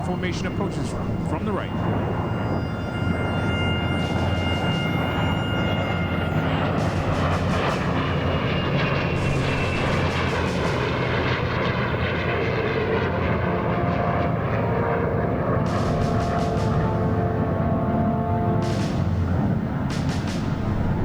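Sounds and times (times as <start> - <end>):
aircraft engines flying past: 0.0 - 21.0.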